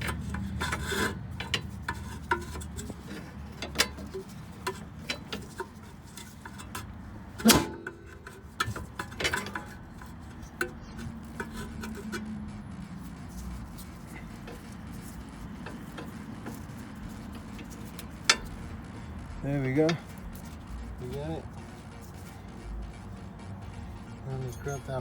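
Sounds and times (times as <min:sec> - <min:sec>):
metallic clicks and knocks: 0:00.0 - 0:25.0.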